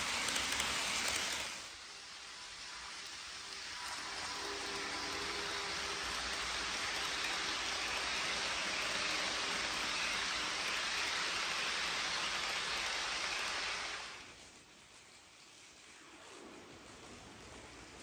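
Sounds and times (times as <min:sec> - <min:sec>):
model train wheels rushing: 0:00.0 - 0:18.0.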